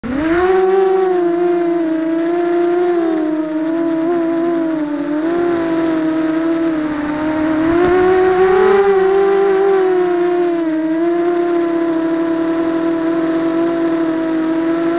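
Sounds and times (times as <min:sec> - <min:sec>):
quadcopter motors whining: 0:00.0 - 0:14.9.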